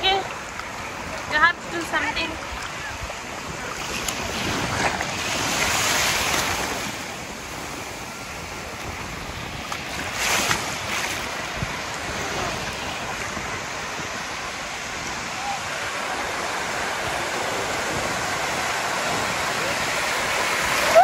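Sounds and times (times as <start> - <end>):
sea surf breaking: 0.0 - 21.0.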